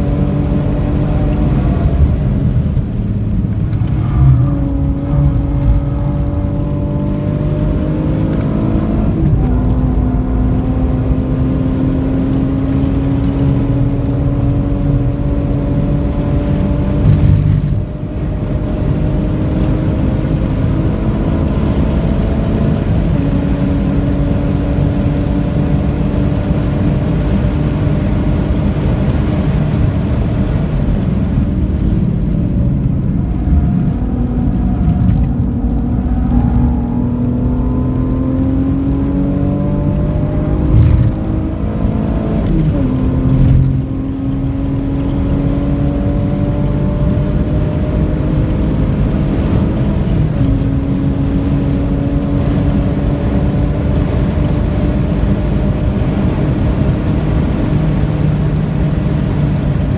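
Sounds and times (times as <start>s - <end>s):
car engine pulling hard: 0.0s - 59.9s.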